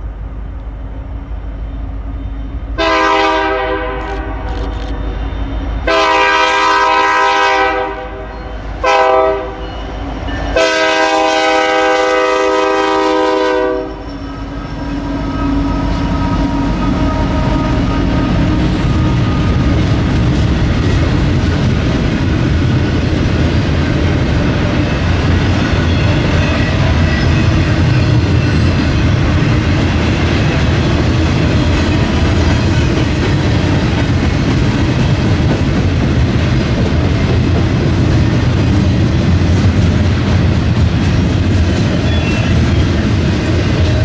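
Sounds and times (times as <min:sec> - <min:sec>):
steel wheels rumbling on rails: 0:00.0 - 0:44.0
clickety-clack from rail joints: 0:00.5 - 0:44.0.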